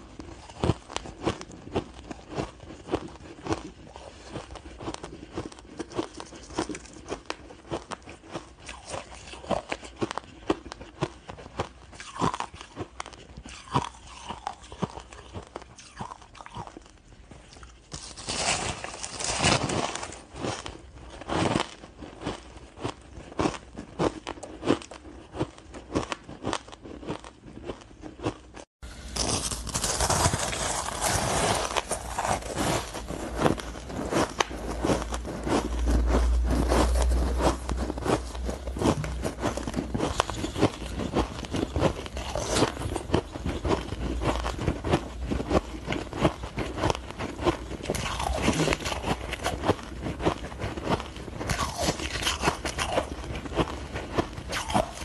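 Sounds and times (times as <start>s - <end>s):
ice being chewed crunching: 0.0s - 55.0s.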